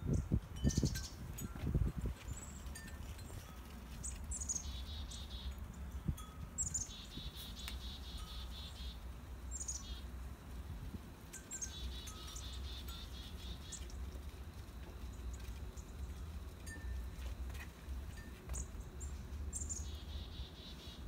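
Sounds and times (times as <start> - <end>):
songbird singing buzzy trill: 0.0 - 21.0.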